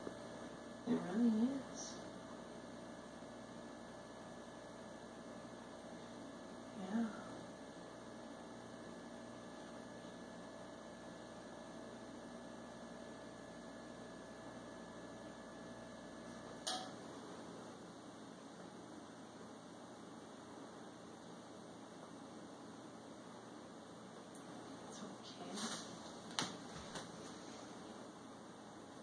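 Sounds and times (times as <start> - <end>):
steady electrical hum: 0.0 - 29.0.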